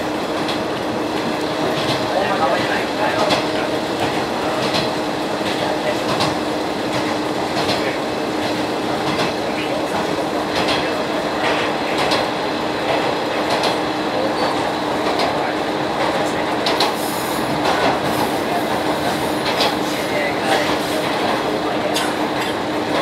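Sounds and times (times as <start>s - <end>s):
wheels rumbling on rail: 0.0s - 23.0s.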